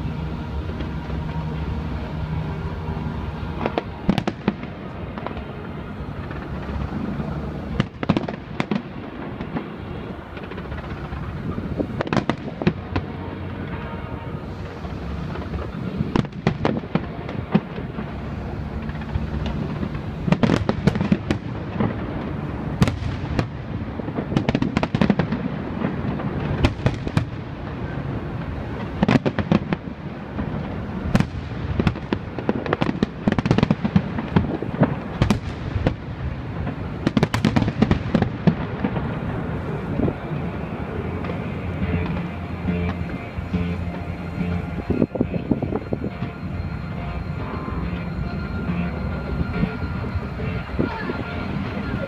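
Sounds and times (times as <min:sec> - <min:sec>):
continuous low rumble: 0:00.0 - 0:52.0
fireworks bangs and crackles: 0:00.0 - 0:52.0.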